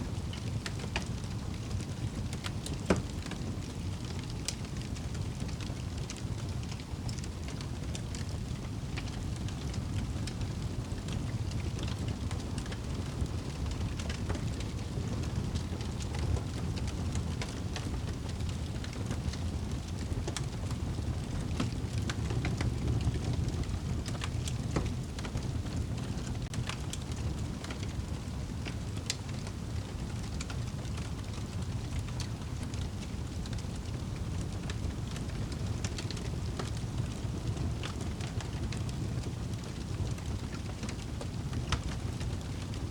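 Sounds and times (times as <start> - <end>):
fire low rumble: 0.0 - 42.9
wood fire crackling and popping: 0.1 - 42.9.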